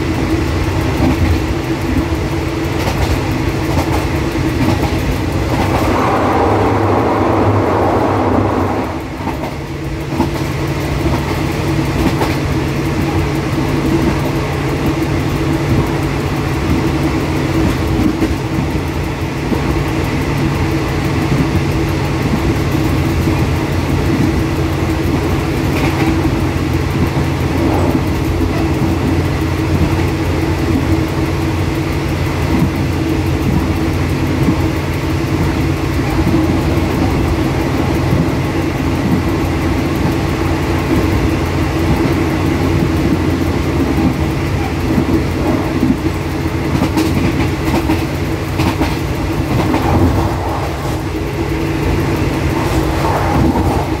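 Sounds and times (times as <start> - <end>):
locomotive engine drone: 0.0 - 54.0
sharp rail clicks: 0.0 - 54.0
wheels rumbling on rail: 0.0 - 54.0.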